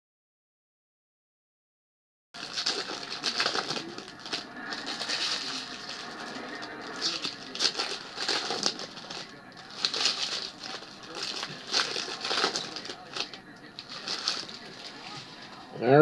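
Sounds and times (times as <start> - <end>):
foil wrappers crinkling and tearing: 2.4 - 15.6.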